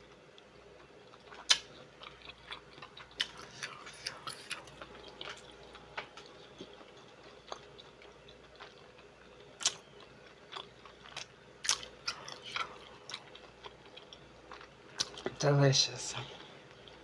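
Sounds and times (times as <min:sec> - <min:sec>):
chewing and biting: 0:01.1 - 0:15.4.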